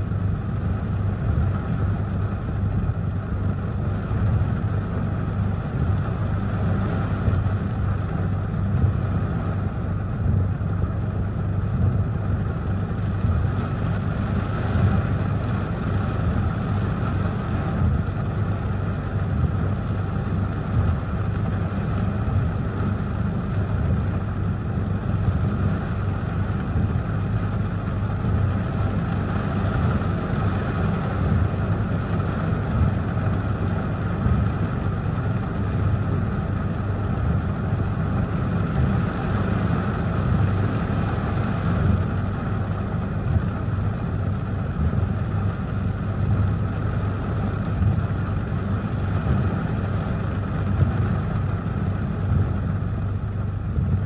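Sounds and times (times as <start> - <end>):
gusting wind: 0.0 - 54.0
heavy rain beating on a car: 0.0 - 54.0.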